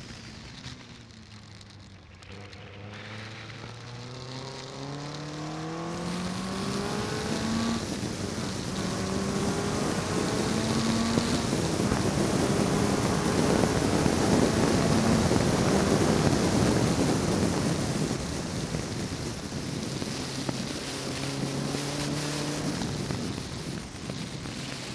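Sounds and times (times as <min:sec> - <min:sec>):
car engine at speed: 0:00.0 - 0:24.9
wind noise on microphone: 0:04.4 - 0:24.9.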